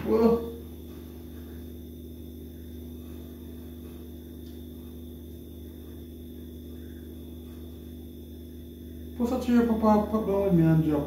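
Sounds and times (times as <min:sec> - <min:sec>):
low electrical hum with whine: 0:00.0 - 0:11.0.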